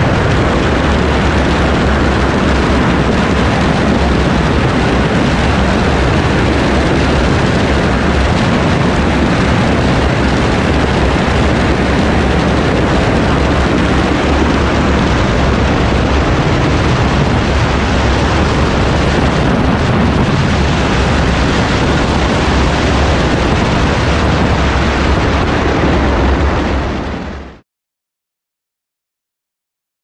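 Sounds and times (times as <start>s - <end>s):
heavy low rumble: 0.0s - 27.6s
wind buffeting microphone: 0.0s - 27.6s.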